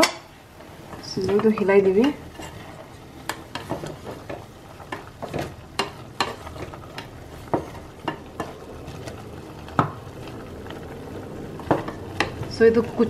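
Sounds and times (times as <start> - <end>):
low sizzle: 0.0 - 13.0
wooden spatula scraping metal pot: 0.0 - 13.0.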